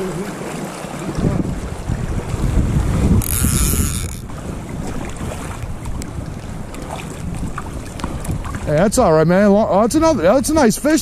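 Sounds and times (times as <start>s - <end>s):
creek water rushing: 0.0s - 9.6s
wind buffeting microphone: 0.0s - 11.0s.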